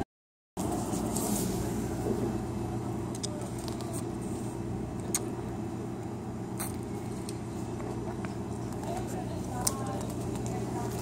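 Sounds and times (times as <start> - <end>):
low machine hum: 0.6 - 11.0.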